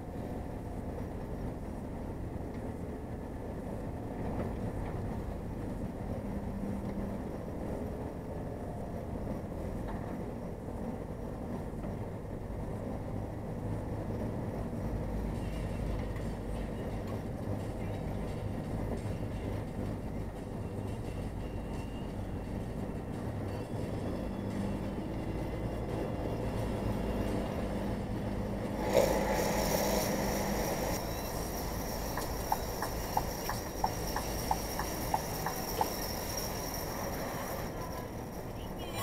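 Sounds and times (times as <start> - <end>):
vehicle rumble with snow chains: 0.0 - 39.0.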